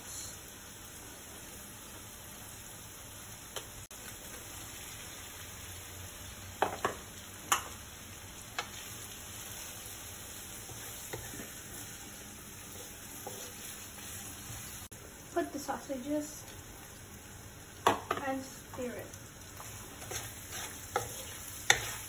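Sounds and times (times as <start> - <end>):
food sizzling in a wok: 0.0 - 22.0.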